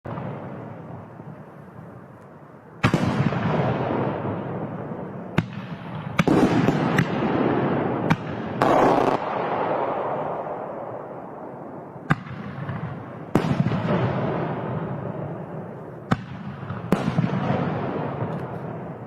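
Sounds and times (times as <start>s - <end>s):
fireworks bangs: 0.1s - 2.0s, 2.8s - 19.0s
fireworks crackling: 0.1s - 19.0s.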